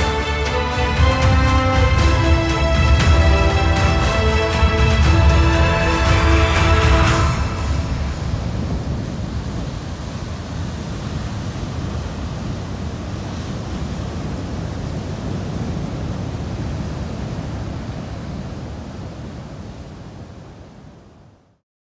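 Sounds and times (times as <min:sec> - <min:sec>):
heavy ocean surf: 0:00.0 - 0:21.3.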